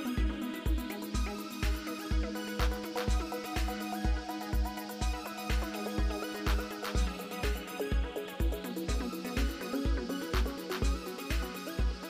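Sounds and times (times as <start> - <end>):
kick drum beat: 0.1 - 12.0.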